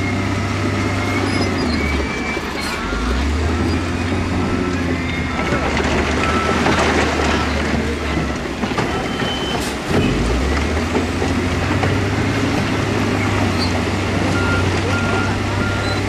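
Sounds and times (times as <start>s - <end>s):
low diesel engine drone: 0.0s - 8.9s, 9.8s - 16.0s
machinery clattering and clanking: 0.1s - 16.0s.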